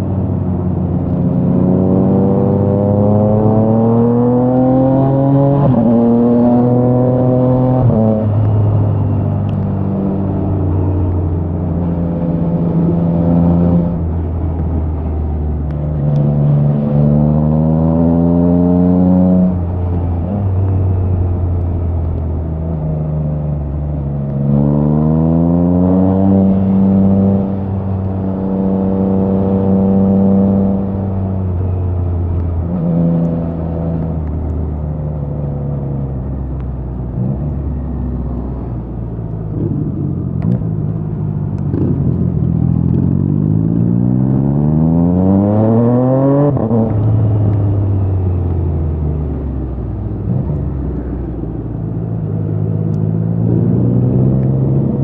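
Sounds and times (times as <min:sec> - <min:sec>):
motorcycle engine revving through upshifts: 0:00.7 - 0:14.2, 0:15.0 - 0:20.6, 0:22.2 - 0:34.3, 0:39.4 - 0:55.0.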